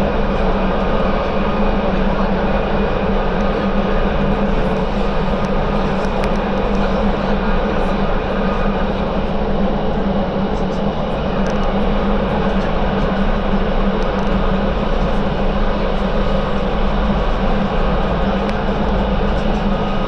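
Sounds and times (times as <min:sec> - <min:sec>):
low hum: 0:00.0 - 0:20.0
metro train rumble: 0:00.0 - 0:20.0.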